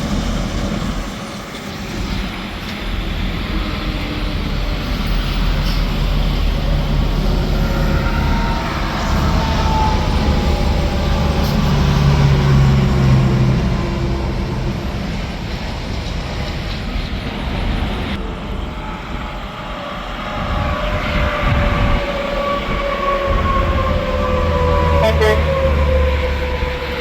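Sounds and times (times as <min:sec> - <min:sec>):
engine rumble: 0:00.0 - 0:27.0
traffic tire roar: 0:00.0 - 0:27.0.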